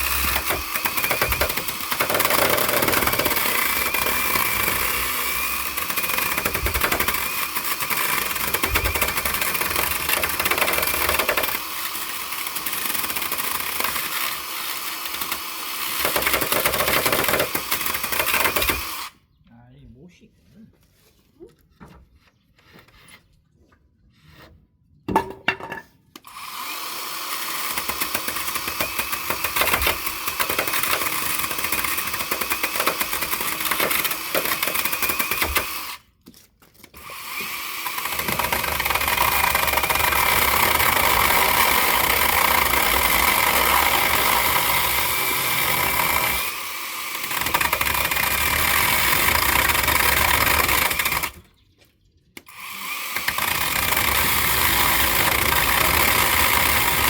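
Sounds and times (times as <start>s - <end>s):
power tool cutting wood: 0.0s - 19.2s, 26.2s - 36.0s, 37.0s - 51.4s, 52.4s - 57.0s.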